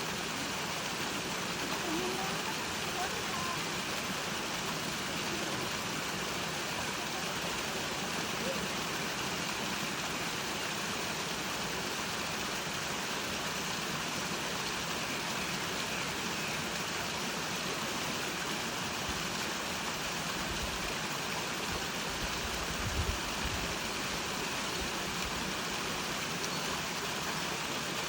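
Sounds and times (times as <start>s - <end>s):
stream rushing: 0.0s - 28.0s.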